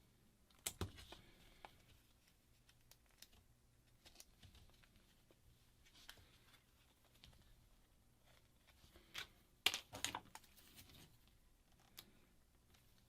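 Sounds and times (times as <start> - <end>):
faint handling noises: 0.6 - 13.0.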